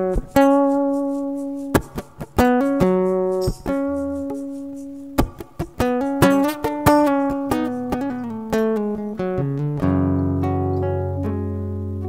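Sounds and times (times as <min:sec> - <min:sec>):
picked acoustic guitar melody: 0:00.0 - 0:12.0.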